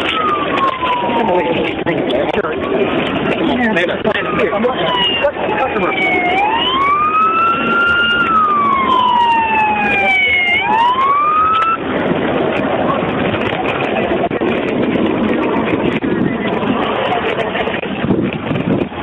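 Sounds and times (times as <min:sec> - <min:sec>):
police siren wailing: 0:00.0 - 0:17.8
steady rushing noise: 0:00.0 - 0:19.0.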